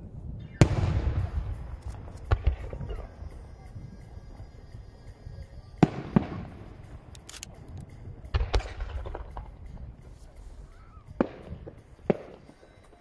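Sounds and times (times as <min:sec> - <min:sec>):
distant firework bangs: 0:00.5 - 0:13.0
firework cracks: 0:00.6 - 0:13.0.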